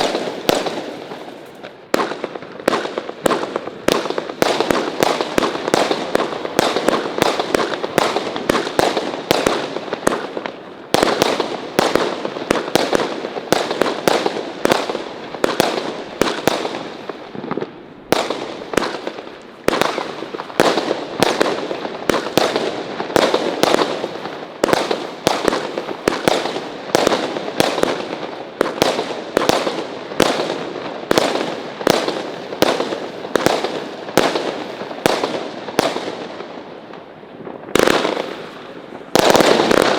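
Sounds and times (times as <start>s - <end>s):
fireworks bangs and bursts: 0.0s - 39.9s.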